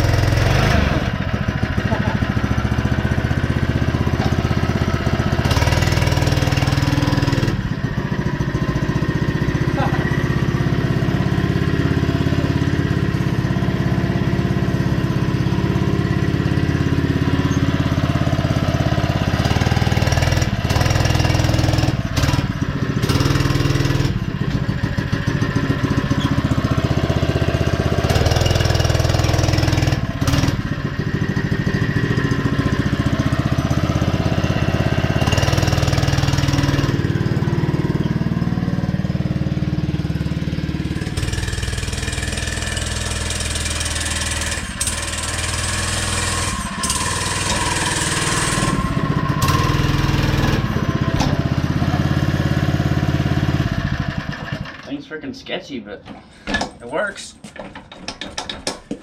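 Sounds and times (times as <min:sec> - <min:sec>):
small single-cylinder engine revving: 0:00.0 - 0:54.9.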